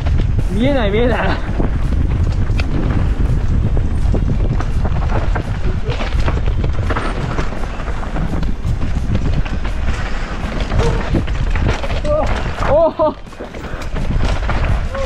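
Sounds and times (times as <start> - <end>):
bike rattles and clacks: 0.0 - 15.0
bike rumbling on rough trail: 0.0 - 15.0.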